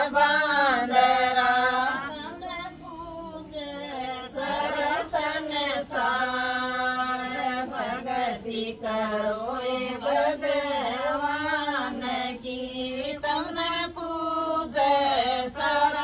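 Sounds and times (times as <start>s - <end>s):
women singing devotional song: 0.0s - 16.0s.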